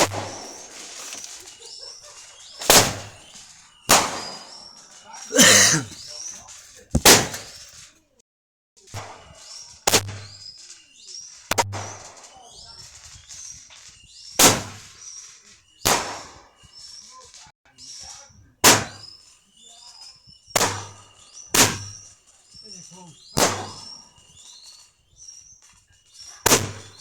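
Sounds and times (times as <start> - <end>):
fireworks bangs: 0.0 - 7.9, 9.0 - 17.4, 18.1 - 27.0.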